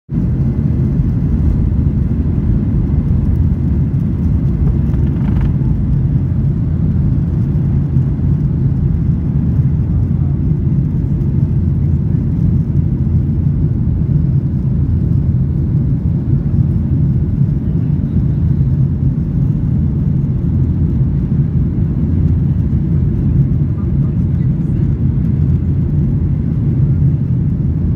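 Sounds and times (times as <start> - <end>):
airplane engines during takeoff: 0.1 - 27.9.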